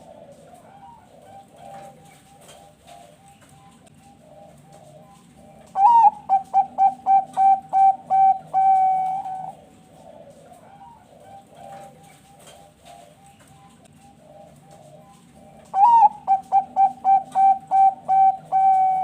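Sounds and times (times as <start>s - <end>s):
dove singing loud song: 0.0s - 19.0s
soft dove cooing: 0.0s - 19.0s.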